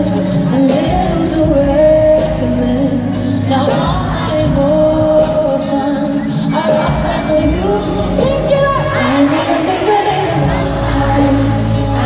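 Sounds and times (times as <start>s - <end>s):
band accompaniment: 0.0s - 12.0s
woman singing pop ballad: 0.0s - 12.0s.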